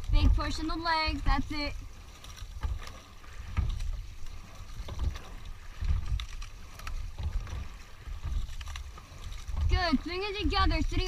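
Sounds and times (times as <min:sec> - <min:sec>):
rowing knocks and thumps: 0:00.0 - 0:11.0
water rushing along hull: 0:00.0 - 0:11.0.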